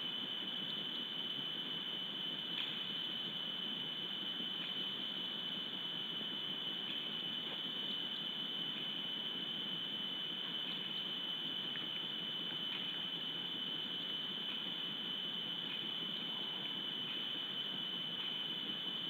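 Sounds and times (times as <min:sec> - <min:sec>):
high-pitched whine: 0:00.0 - 0:19.0
steady hiss: 0:00.0 - 0:19.0.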